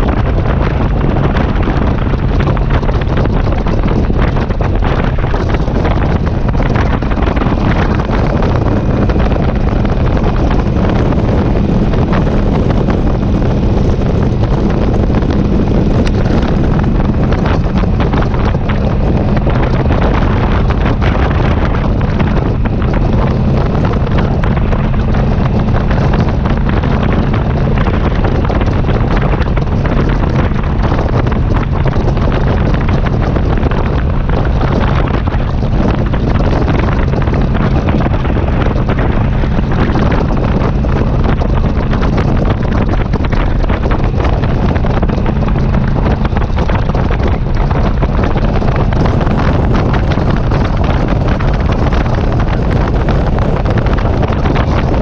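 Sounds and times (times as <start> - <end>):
motorcycle engine cruising: 0.0 - 55.0
wind buffeting microphone: 0.0 - 55.0.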